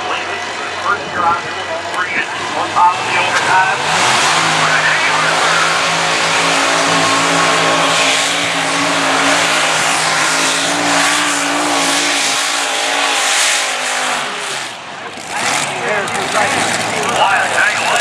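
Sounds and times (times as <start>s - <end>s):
tractor engines roaring: 0.0s - 18.0s.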